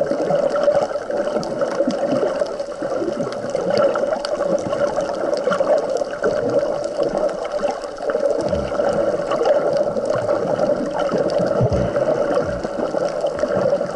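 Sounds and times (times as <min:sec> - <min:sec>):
low water surges: 0:00.0 - 0:13.9
small underwater clicks: 0:00.0 - 0:13.9
underwater gurgling wash: 0:00.0 - 0:13.9.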